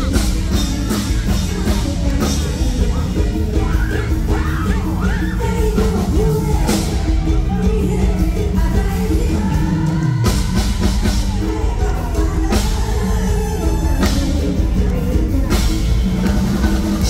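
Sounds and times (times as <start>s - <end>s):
drum kit beat: 0.0s - 17.0s
live band music: 0.0s - 17.0s
woman singing into a microphone: 0.5s - 16.8s.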